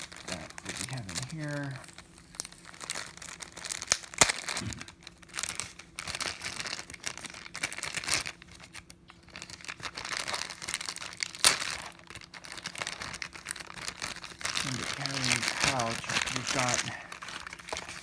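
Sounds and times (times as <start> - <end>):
packaging crinkling: 0.0 - 18.0.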